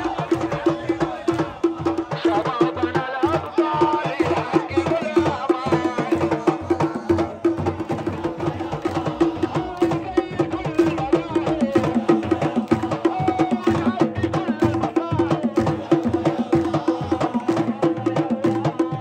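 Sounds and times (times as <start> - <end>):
crowd singing a chant: 0.0 - 19.0
fast hand drumming: 0.0 - 19.0.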